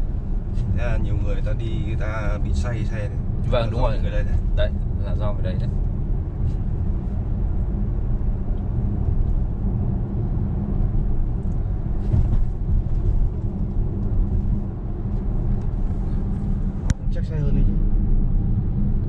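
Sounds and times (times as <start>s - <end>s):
road and engine rumble in car: 0.0s - 19.0s.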